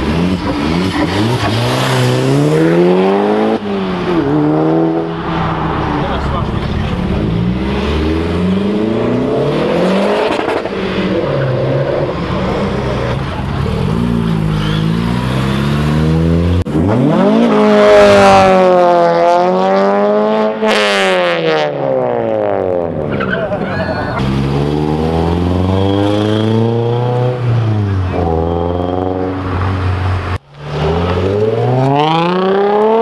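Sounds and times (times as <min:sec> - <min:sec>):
loud engine revving: 0:00.0 - 0:23.0, 0:24.2 - 0:33.0
car engines accelerating: 0:00.0 - 0:33.0.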